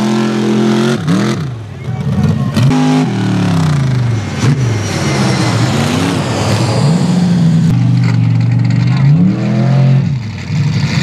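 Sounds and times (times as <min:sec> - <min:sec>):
buggy engine revving hard: 0:00.0 - 0:11.0.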